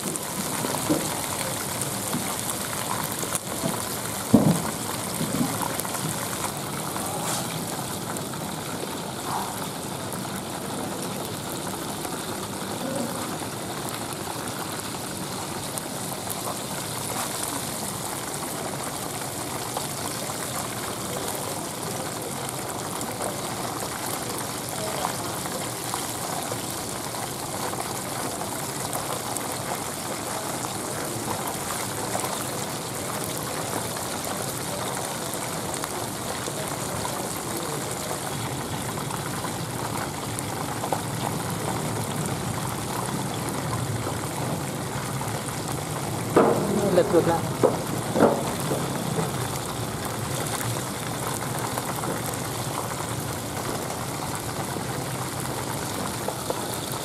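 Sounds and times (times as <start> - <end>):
oil bubbling and sizzling: 0.0 - 57.0.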